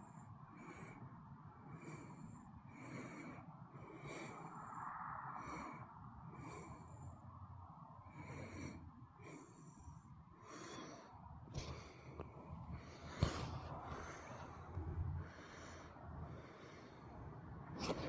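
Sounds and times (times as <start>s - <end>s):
heavy breathing: 0.0s - 18.0s.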